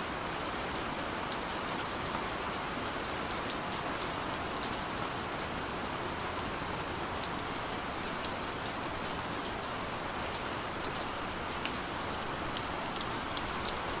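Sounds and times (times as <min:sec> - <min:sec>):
gentle rain hissing: 0:01.3 - 0:14.0.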